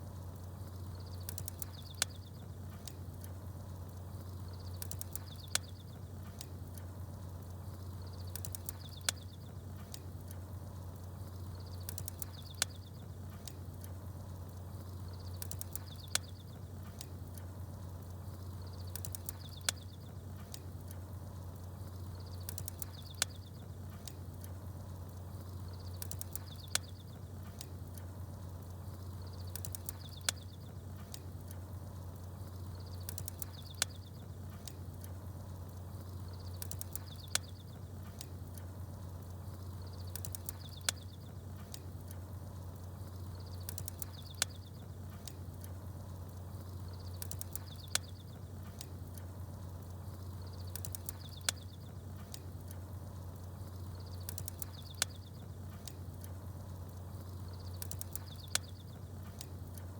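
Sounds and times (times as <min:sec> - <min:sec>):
fire crackling: 0:00.0 - 0:59.9
small birds chirping: 0:00.0 - 0:59.9
steady low hum: 0:00.0 - 0:59.9.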